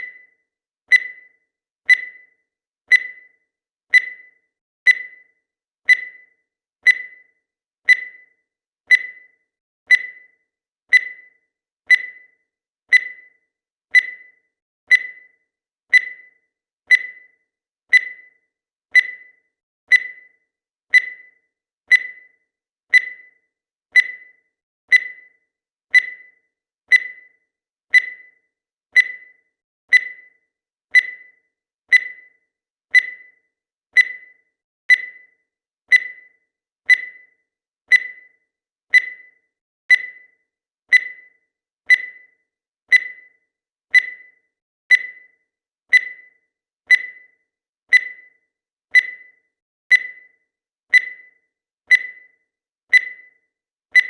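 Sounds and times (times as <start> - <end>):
high-pitched timer blip: 0.0 - 54.0.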